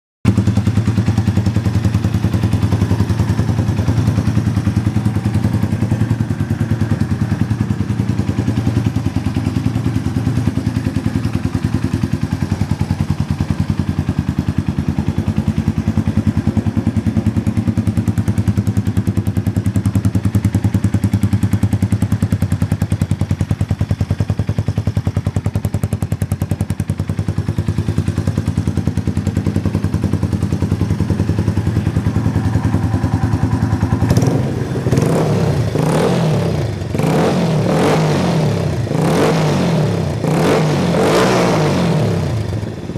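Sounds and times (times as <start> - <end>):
motorcycle engine idling: 0.3 - 42.9.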